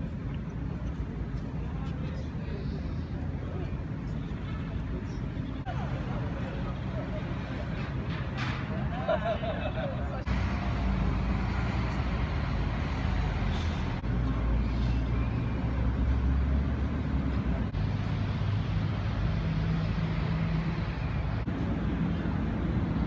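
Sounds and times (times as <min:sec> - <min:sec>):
outdoor noise: 0:00.0 - 0:23.0
tram equipment humming: 0:00.0 - 0:23.0.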